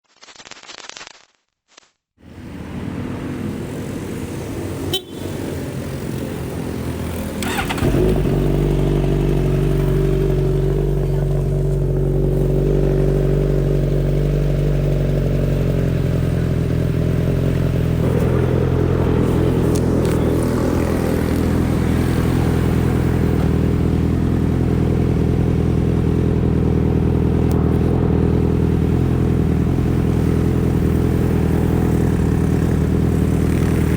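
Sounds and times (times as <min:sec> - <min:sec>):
motorcycle engine idling: 0:03.9 - 0:33.9.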